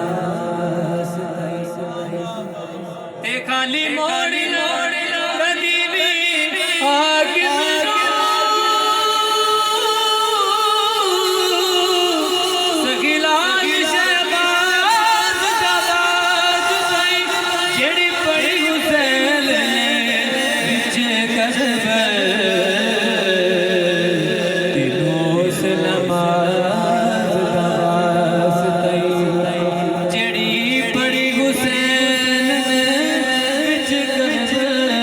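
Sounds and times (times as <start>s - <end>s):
man singing devotional song: 0.0s - 35.0s.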